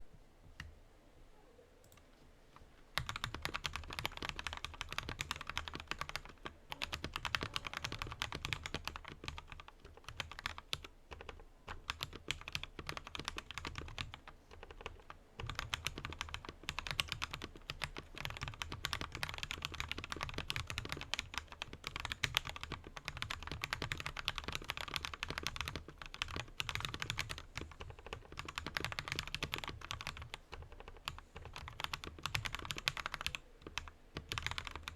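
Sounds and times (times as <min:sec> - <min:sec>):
mechanical keyboard typing: 0:03.0 - 0:34.9.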